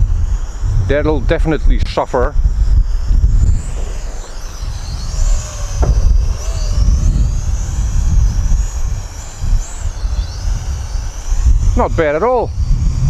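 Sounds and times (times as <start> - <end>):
quadcopter motors whining: 0.0 - 13.0
wind buffeting microphone: 0.0 - 13.0.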